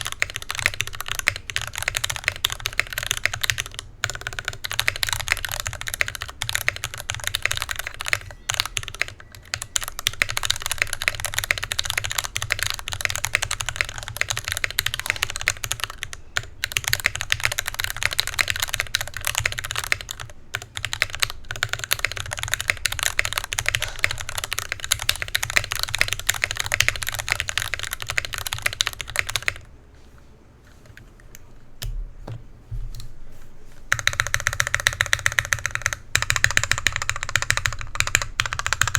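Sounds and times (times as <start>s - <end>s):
mechanical keyboard typing: 0.0s - 29.7s, 33.9s - 38.9s.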